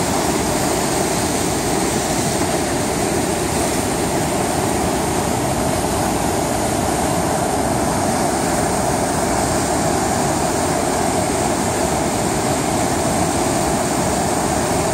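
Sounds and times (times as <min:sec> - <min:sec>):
water rushing over rocks: 0:00.0 - 0:14.9.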